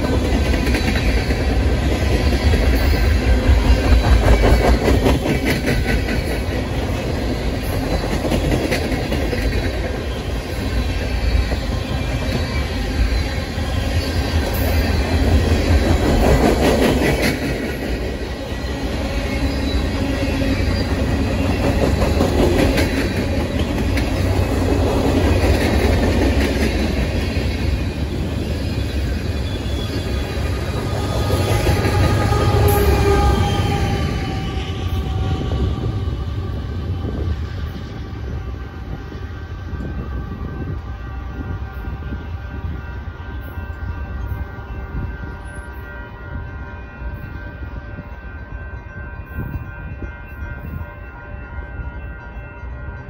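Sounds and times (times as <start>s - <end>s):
freight train heavy rumble: 0.0s - 53.0s.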